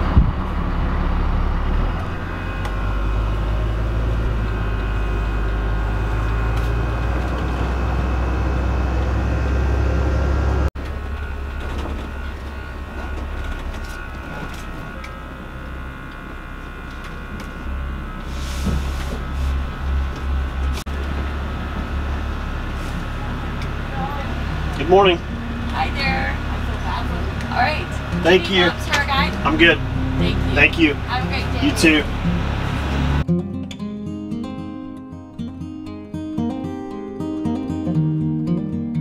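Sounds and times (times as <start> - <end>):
engine and road rumble: 0.0 - 39.0.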